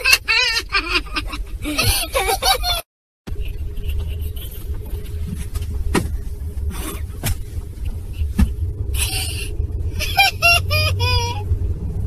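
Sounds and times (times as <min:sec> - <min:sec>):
car cabin rumble: 0:00.0 - 0:12.0
faint steady hum: 0:00.0 - 0:12.0.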